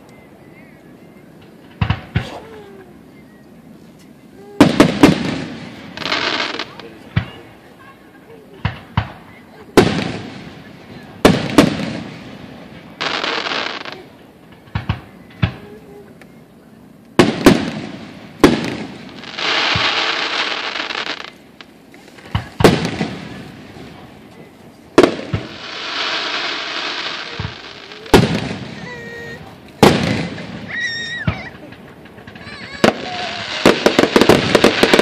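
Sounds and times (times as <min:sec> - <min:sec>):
firework shells booming: 0:01.4 - 0:02.7, 0:04.4 - 0:07.6, 0:08.6 - 0:15.8, 0:17.1 - 0:24.3, 0:24.9 - 0:35.0
firework hiss: 0:03.8 - 0:07.7, 0:08.6 - 0:15.9, 0:17.2 - 0:35.0.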